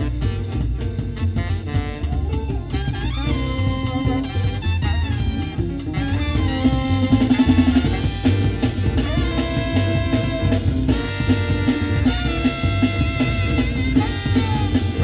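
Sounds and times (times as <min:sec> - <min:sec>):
jazz with drums and brass: 0:00.0 - 0:15.0.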